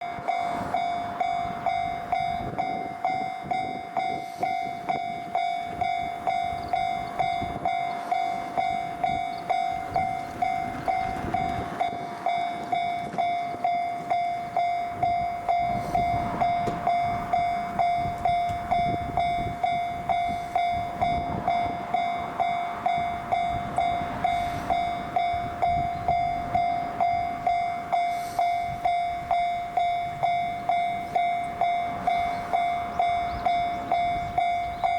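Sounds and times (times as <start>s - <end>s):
level-crossing bell ringing: 0.0s - 34.9s
train rumble and wheel clatter: 0.0s - 34.9s.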